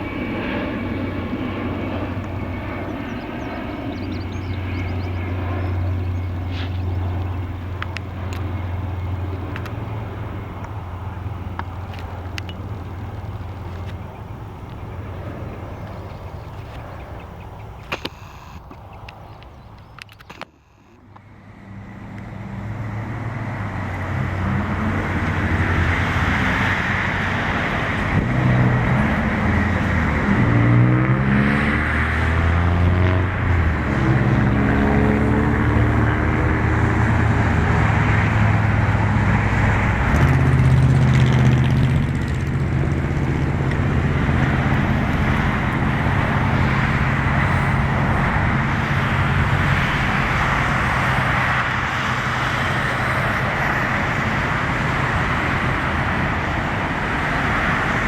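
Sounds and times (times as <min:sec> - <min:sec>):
military aircraft engines passing: 0:00.0 - 0:58.0.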